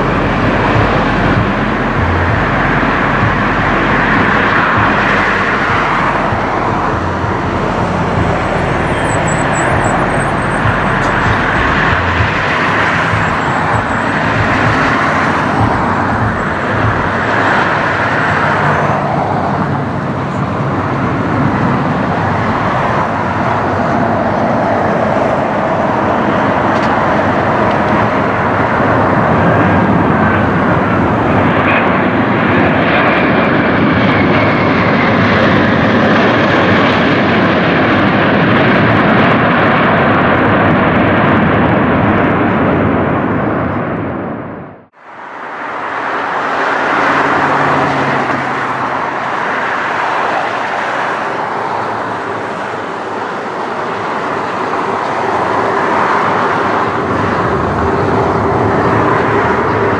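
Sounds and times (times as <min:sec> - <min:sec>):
jet airliner engines roaring: 0:00.0 - 0:59.9
road traffic: 0:00.0 - 0:59.9.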